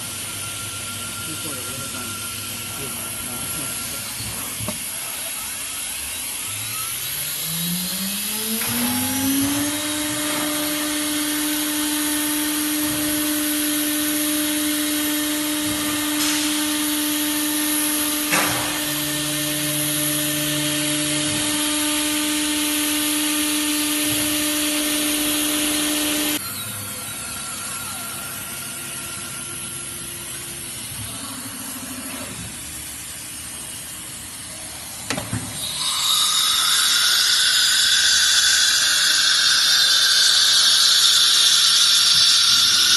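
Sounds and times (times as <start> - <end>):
router spindle whine: 0.0 - 42.9.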